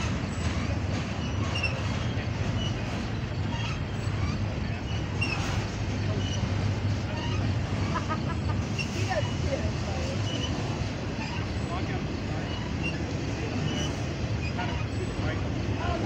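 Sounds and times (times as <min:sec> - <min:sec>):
train wheels rumbling on rail: 0:00.0 - 0:16.0
faint high squeaks: 0:00.3 - 0:16.0.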